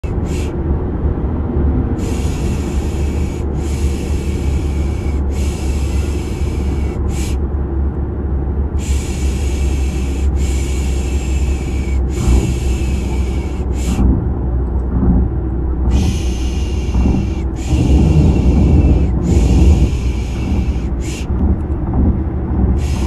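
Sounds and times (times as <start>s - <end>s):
car interior drone: 0.0s - 23.0s.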